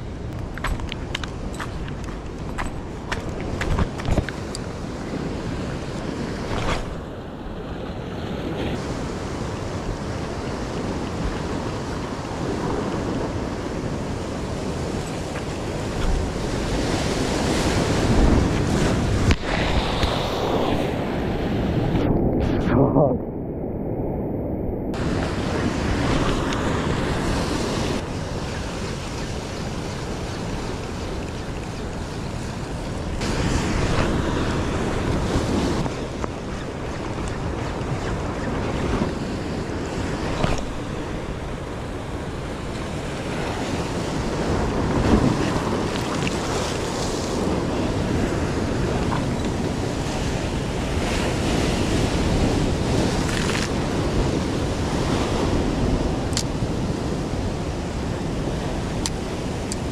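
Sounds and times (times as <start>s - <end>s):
ocean waves breaking on rocks: 0.0s - 22.0s, 24.9s - 59.9s
wind buffeting microphone: 0.0s - 59.9s.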